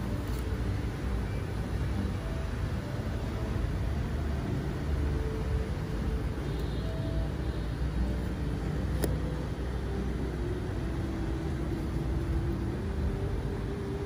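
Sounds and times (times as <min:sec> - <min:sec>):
faint wavering hum: 0:00.0 - 0:14.0
low rumbling background noise: 0:00.0 - 0:14.0.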